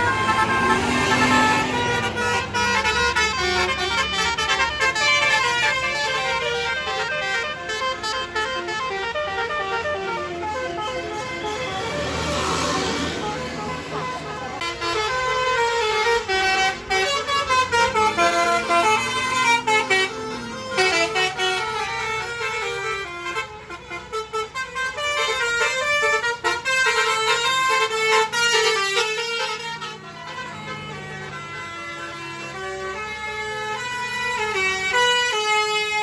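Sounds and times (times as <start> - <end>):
bus musical horns: 0.0 - 36.0.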